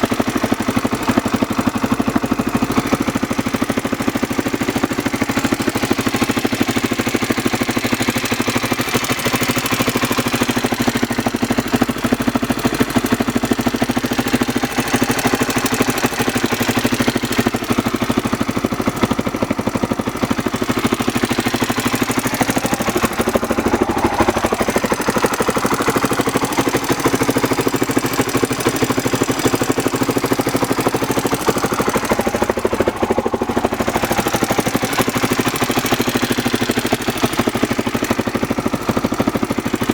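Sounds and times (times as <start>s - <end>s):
engine ticking: 0.0s - 39.9s
motorcycle engine idling: 0.0s - 39.9s.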